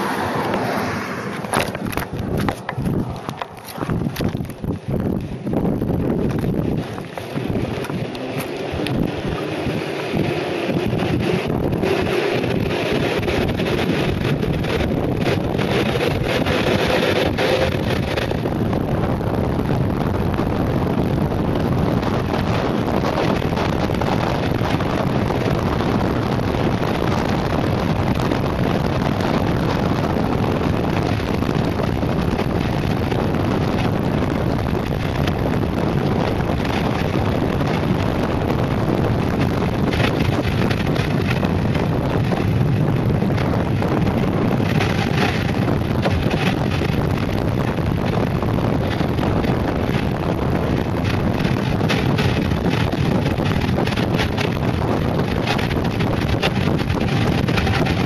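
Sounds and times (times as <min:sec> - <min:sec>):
tyres rolling on asphalt: 0:00.0 - 0:58.0
wind buffeting microphone: 0:00.0 - 0:58.0.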